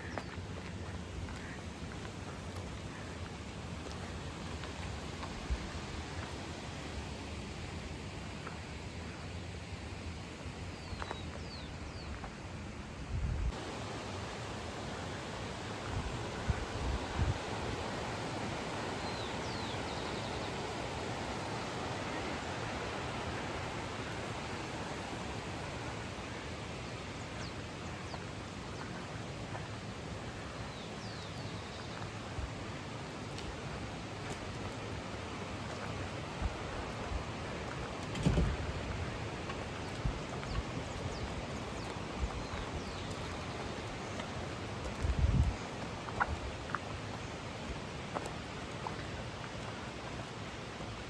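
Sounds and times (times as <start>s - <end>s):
flowing water rushing: 0.0s - 9.0s, 13.5s - 51.0s.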